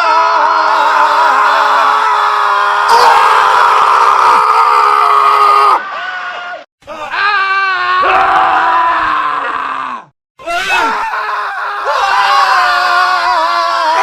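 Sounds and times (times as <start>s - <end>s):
man screaming: 0.0s - 14.0s
men screaming together: 0.0s - 14.0s.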